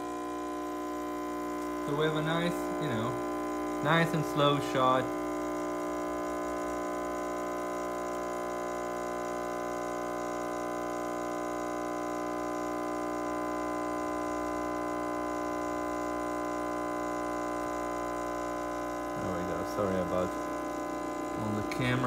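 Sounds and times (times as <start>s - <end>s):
espresso machine pump humming: 0.0s - 22.0s.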